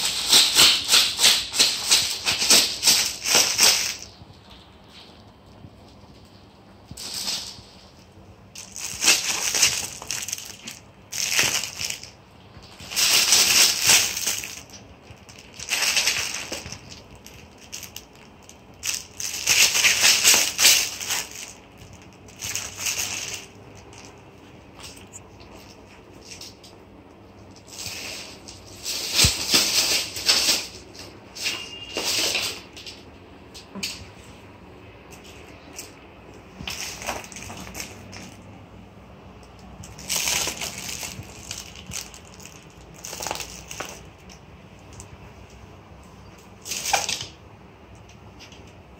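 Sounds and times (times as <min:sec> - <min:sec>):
crinkly rustling of fabric toy: 0:00.0 - 0:34.5, 0:35.1 - 0:48.9.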